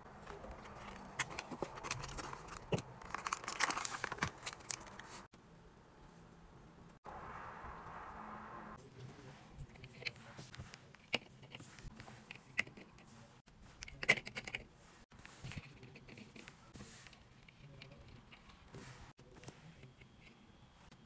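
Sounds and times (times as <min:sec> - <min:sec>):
soft handling noise: 0:00.0 - 0:05.3, 0:08.8 - 0:21.0.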